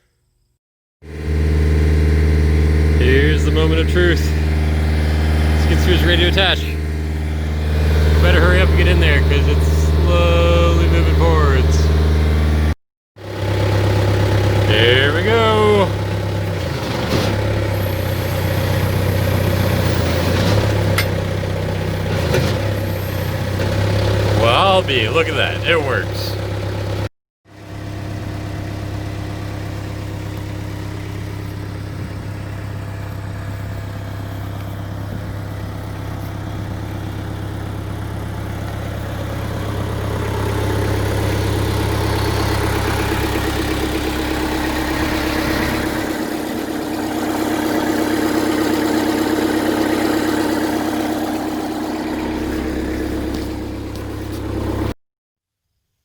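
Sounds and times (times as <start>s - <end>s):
skid steer engine running: 1.0s - 55.0s.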